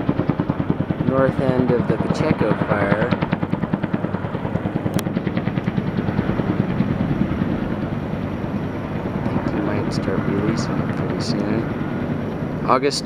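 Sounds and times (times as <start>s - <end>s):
helicopter rotor blades beating: 0.0s - 13.0s.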